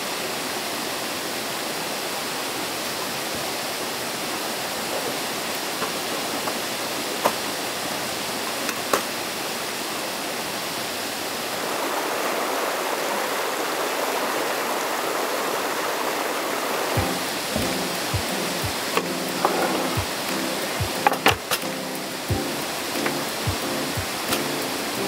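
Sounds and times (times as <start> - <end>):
flowing water rushing: 0.0 - 25.0.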